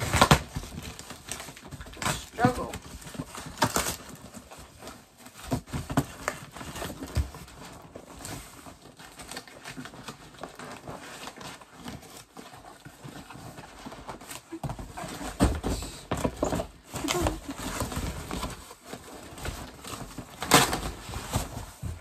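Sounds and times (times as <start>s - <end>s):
cardboard packaging rustling: 0.0s - 22.0s.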